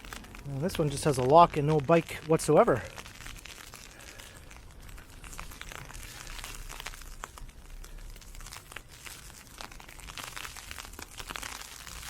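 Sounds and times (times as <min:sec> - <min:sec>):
ice pellets ticking: 0:00.0 - 0:12.0.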